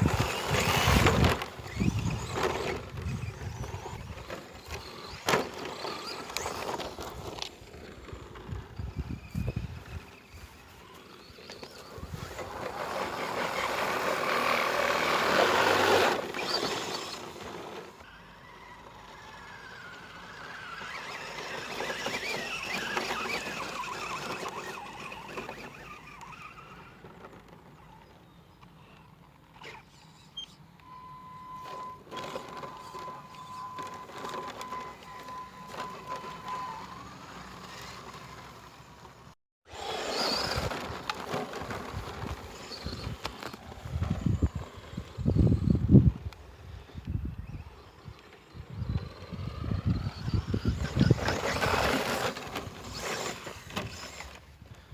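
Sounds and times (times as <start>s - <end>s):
rc truck motor and tyres: 0.0s - 54.9s.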